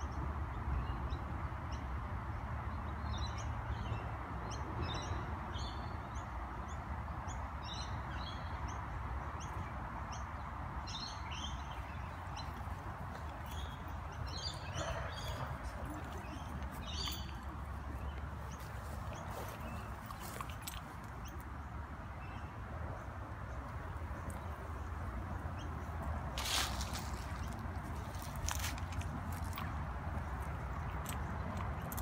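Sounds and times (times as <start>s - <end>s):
small birds chirping: 3.1s - 32.0s.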